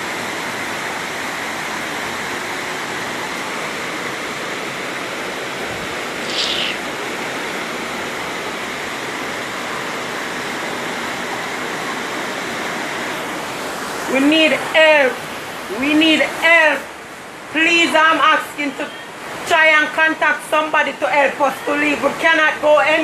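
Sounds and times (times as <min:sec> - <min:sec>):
flood water rushing: 0:00.0 - 0:23.0.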